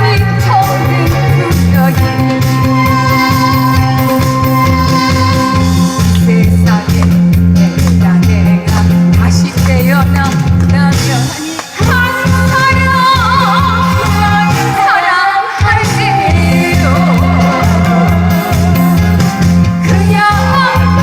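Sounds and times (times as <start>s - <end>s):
person singing: 0.0s - 21.0s
trot song over loudspeakers: 0.0s - 21.0s.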